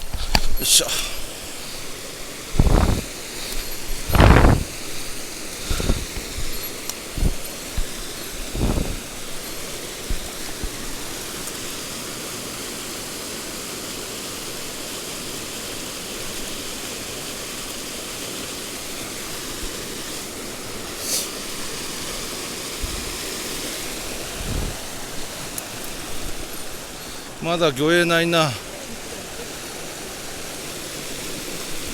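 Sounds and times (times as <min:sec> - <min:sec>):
stream water rushing: 0:00.0 - 0:31.9.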